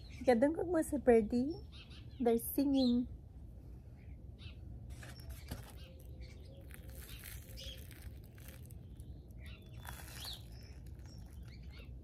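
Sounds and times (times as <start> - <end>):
small birds chirping: 0.0 - 3.2, 3.9 - 12.0.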